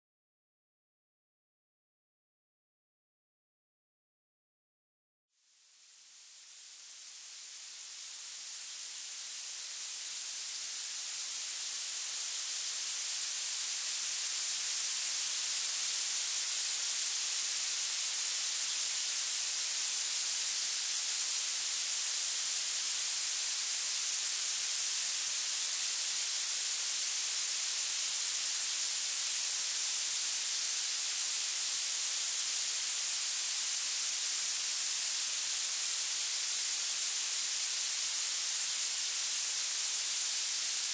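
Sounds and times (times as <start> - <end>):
high-pitched hiss: 5.4 - 40.9.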